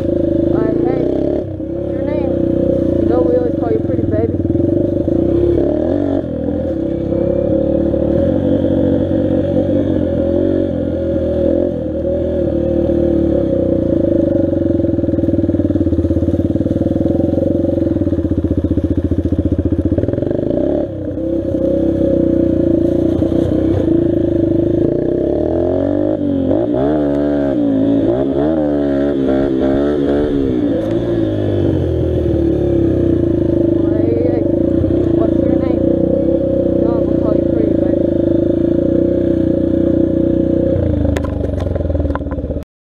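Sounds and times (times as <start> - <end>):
dirt bike engine revving: 0.0 - 42.3.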